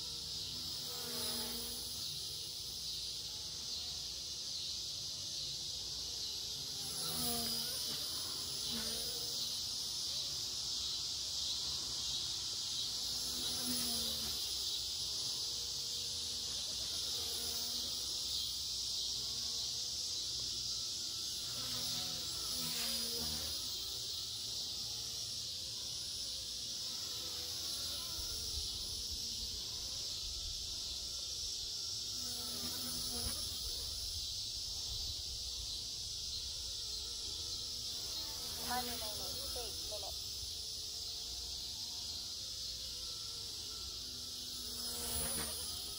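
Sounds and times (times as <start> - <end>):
rc helicopter buzzing whine: 0.0 - 45.9.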